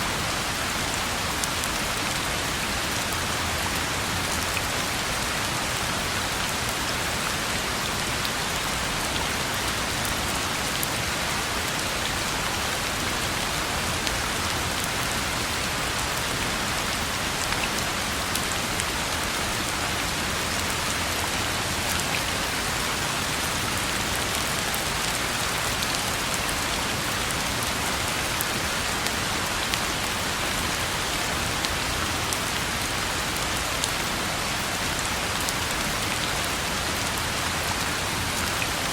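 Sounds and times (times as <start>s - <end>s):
rain falling on a road: 0.0s - 38.9s.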